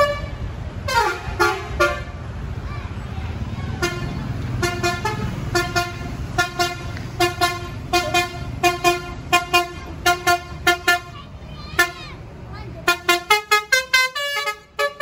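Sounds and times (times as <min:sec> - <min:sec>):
musical bus horn toots: 0:00.0 - 0:02.2, 0:03.8 - 0:12.2, 0:12.8 - 0:15.0
low engine rumble: 0:00.0 - 0:15.0.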